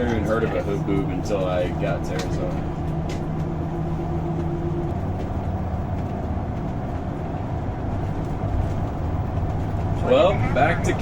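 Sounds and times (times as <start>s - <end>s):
engine road and wind drone: 0.0s - 11.0s.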